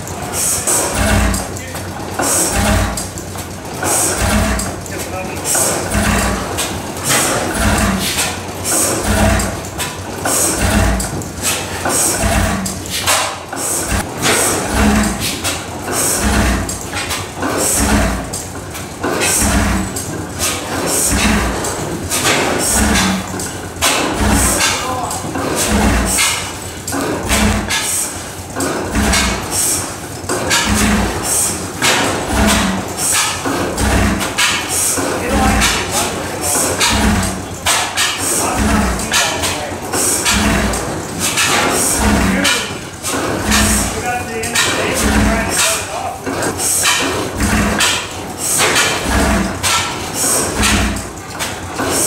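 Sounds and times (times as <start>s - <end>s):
stationary gas engine running: 0.0s - 52.0s.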